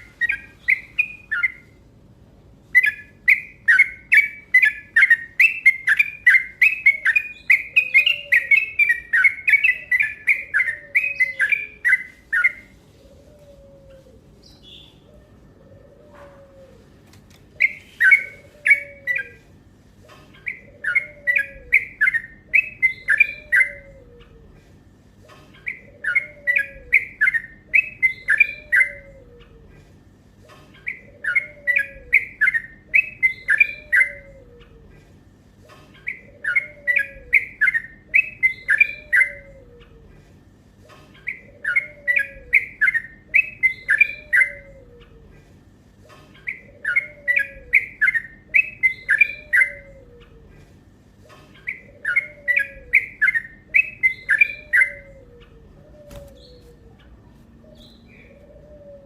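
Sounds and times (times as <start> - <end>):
bulbul chattering song: 0.0 - 16.4, 17.5 - 24.6, 25.2 - 29.8, 30.4 - 35.0, 35.7 - 40.2, 40.9 - 45.4, 46.1 - 59.0.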